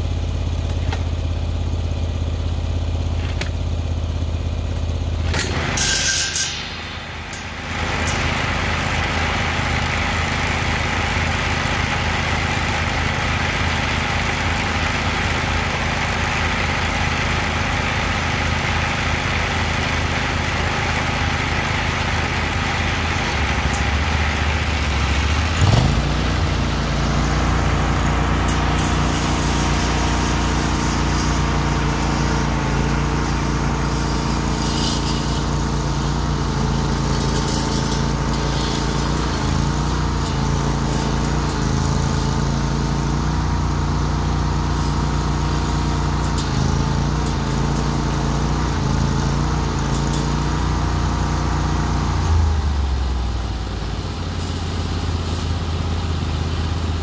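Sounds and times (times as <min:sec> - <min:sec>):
lawn mower engines running: 0:00.0 - 0:57.0
engine revving: 0:05.2 - 0:53.2.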